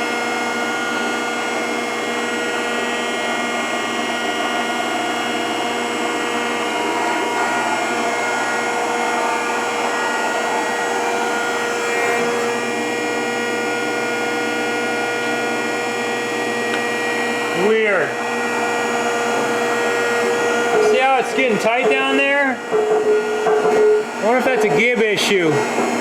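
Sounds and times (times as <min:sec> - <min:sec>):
hydraulic planer running: 0:00.0 - 0:26.0.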